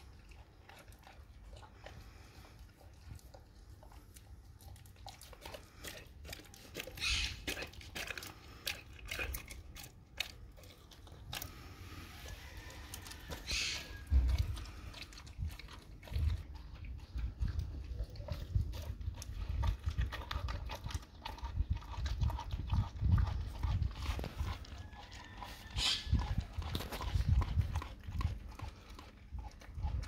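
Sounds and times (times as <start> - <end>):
dog chewing wetly: 0.0 - 30.0.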